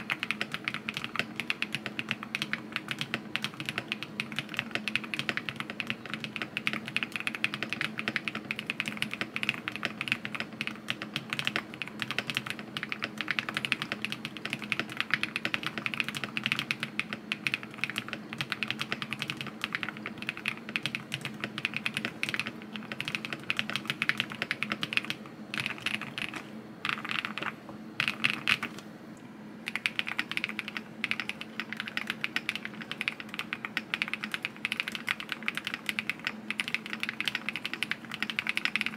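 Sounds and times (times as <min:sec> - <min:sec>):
fast mechanical keyboard typing: 0:00.0 - 0:28.8, 0:29.6 - 0:38.9.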